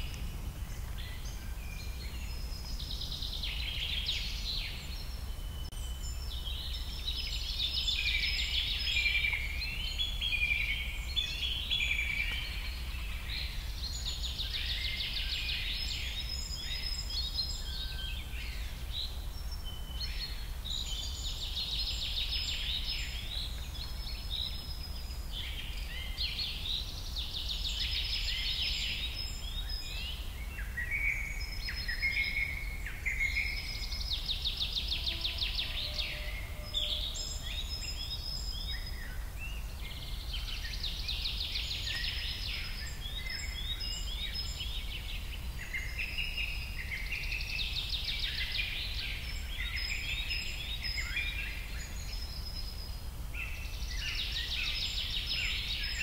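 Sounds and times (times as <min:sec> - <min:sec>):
birds chirping and warbling: 0:00.0 - 0:56.0.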